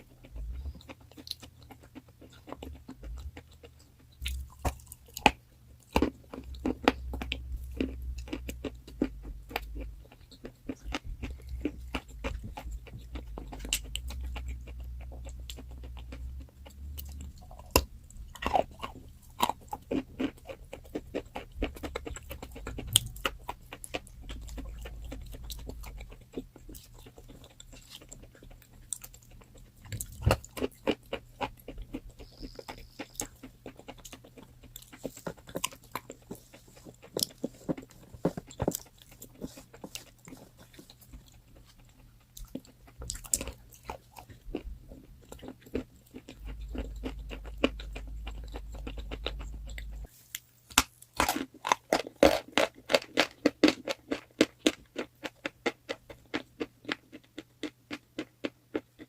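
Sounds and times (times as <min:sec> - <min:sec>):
chalk being bitten and chewed: 0:00.0 - 0:59.0.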